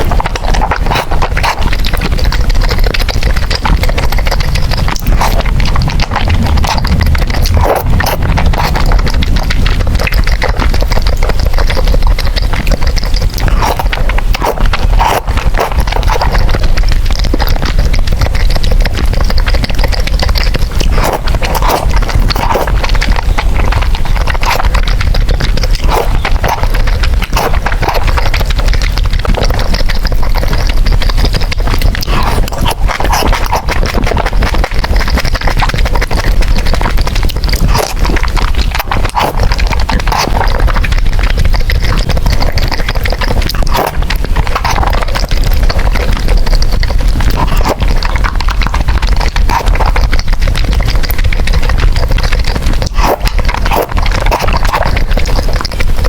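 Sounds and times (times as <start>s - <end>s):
chewing and slurping noodles: 0.0s - 56.0s
mouth clicks: 0.0s - 56.0s.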